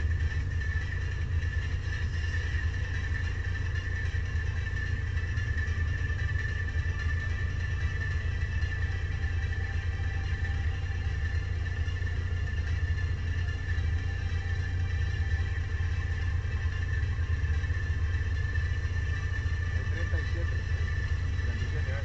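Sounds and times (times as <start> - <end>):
car engine idling: 0.0 - 22.0
high-pitched whine: 0.0 - 22.0.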